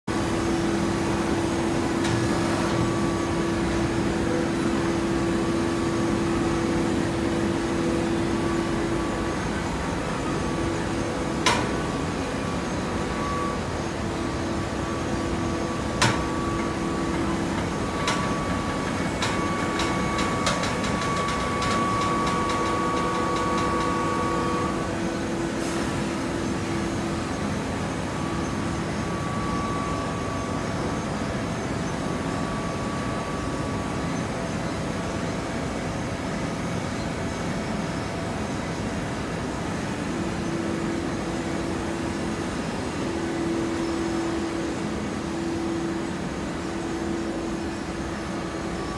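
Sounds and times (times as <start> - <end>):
hydraulic baler humming: 0.1 - 48.9.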